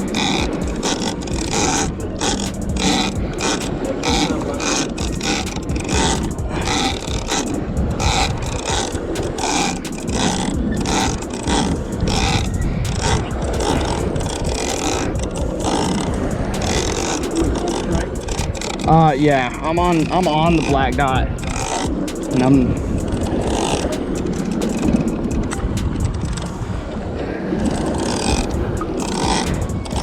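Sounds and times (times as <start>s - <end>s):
fishing reel gears clicking: 0.0s - 26.5s, 27.7s - 30.0s.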